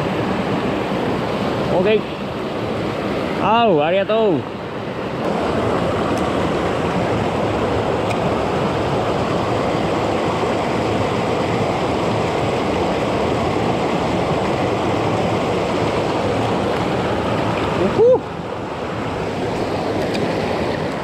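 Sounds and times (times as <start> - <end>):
river rushing over rapids: 0.0 - 21.0.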